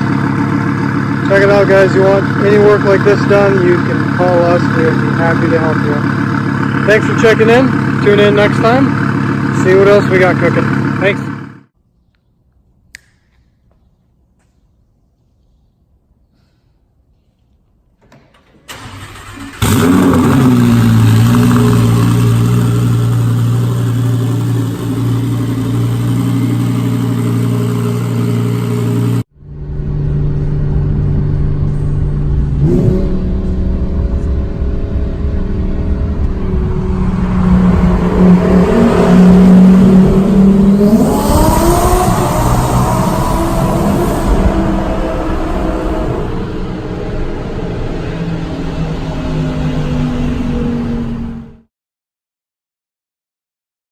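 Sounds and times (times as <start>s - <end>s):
car engine droning and revving: 0.0s - 11.7s, 18.7s - 51.7s.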